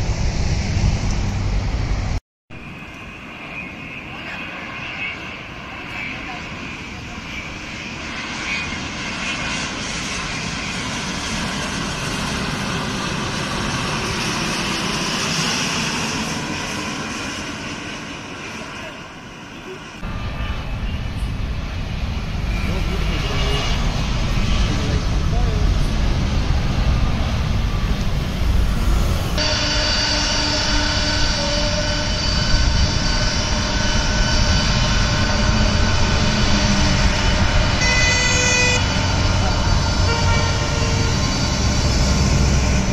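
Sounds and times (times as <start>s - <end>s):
jet engines rushing: 0.0s - 42.9s.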